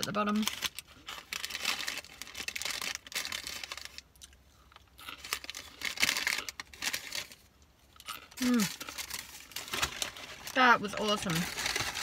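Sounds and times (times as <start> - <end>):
paper packet crinkling: 0.0 - 4.1, 5.0 - 7.5, 8.1 - 12.0.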